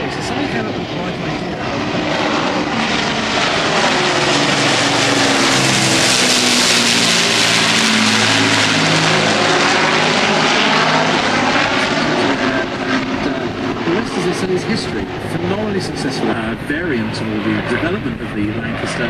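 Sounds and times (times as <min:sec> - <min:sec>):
propeller plane flying overhead: 0:00.0 - 0:19.0.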